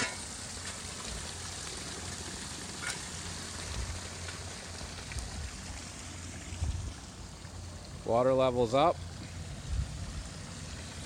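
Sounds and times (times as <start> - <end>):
waterfall splashing into pond: 0.0 - 11.0.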